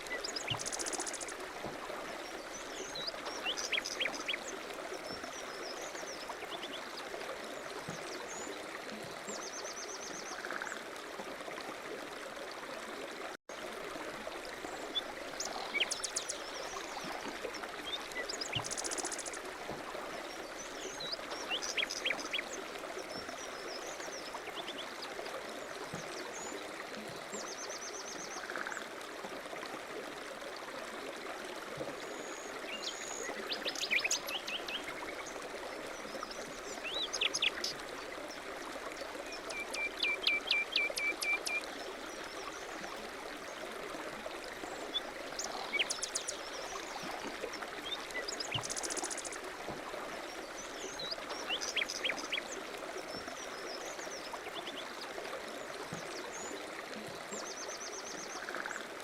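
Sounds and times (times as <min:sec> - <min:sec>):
stream running water: 0:00.0 - 0:59.0.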